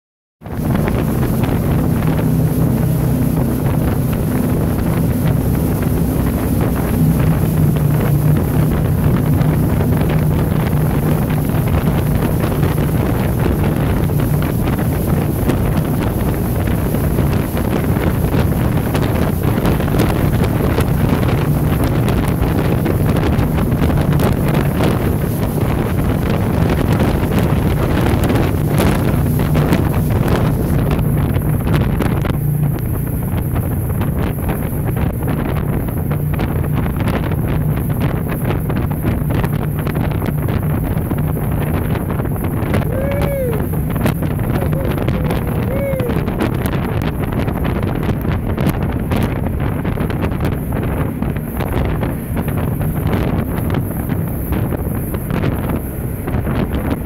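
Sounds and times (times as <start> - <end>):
boat engine drone: 0.4 - 57.0
wind buffeting microphone: 0.4 - 57.0.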